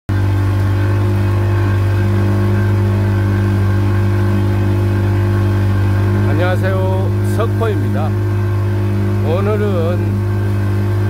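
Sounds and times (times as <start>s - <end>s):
outboard motor running: 0.1s - 11.0s.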